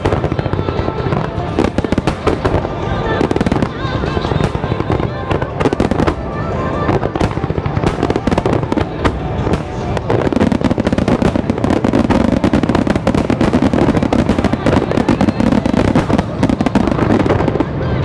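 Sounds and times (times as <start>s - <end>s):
fireworks bursting: 0.0s - 18.0s
music playing: 0.0s - 18.0s.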